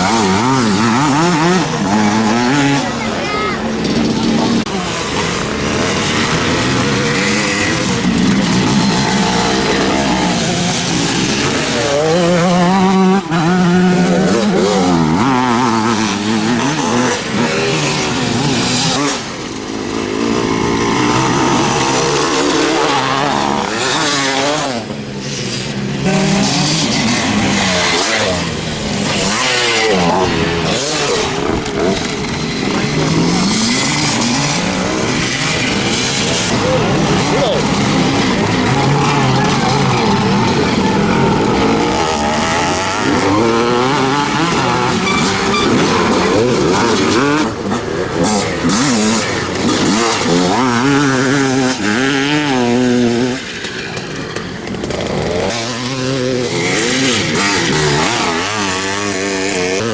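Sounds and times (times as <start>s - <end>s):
motocross motorcycles revving: 0.0s - 59.9s.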